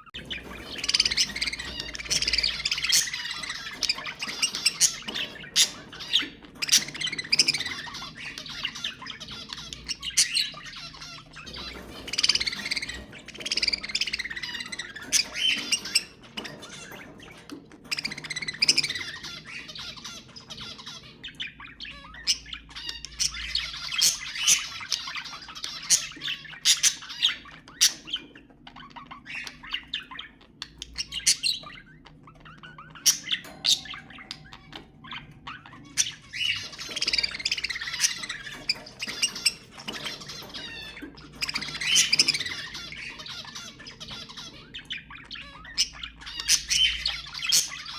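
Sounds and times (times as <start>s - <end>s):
budgerigars chattering: 0.0s - 47.9s.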